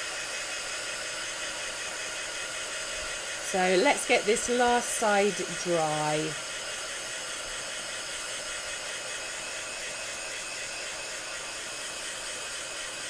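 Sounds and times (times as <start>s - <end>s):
hot-air tool blowing: 0.0s - 13.0s.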